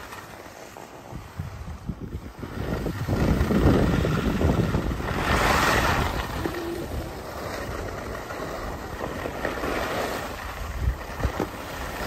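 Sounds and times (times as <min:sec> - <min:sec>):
skis scraping over snow: 0:00.0 - 0:12.0
wind on microphone: 0:01.0 - 0:12.0.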